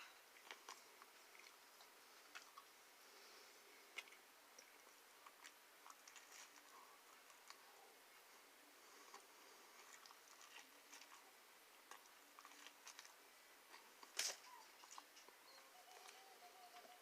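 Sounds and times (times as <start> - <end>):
person chewing food: 0.1 - 2.9, 3.8 - 7.7, 8.9 - 16.2.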